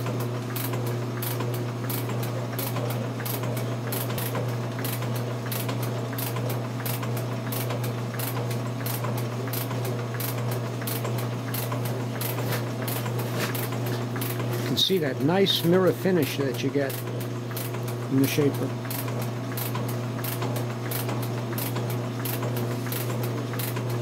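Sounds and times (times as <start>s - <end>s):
motor hum: 0.0s - 24.0s.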